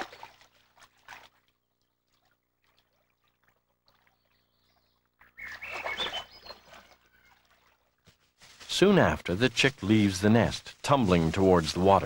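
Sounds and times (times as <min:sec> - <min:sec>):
faint quiet water sounds: 0:00.0 - 0:12.0
water splashing: 0:00.0 - 0:12.0.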